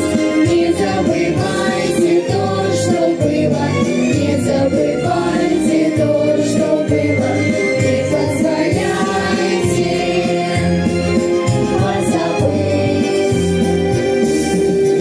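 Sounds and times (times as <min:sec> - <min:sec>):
vocal group singing: 0:00.0 - 0:14.2
instrumental backing track: 0:00.0 - 0:15.0.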